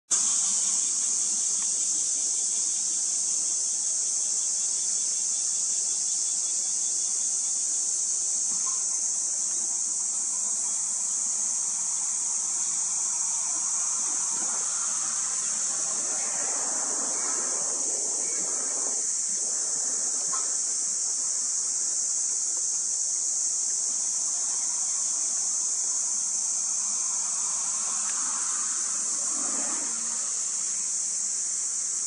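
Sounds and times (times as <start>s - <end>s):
high-pitched insect chorus: 0.1s - 32.0s.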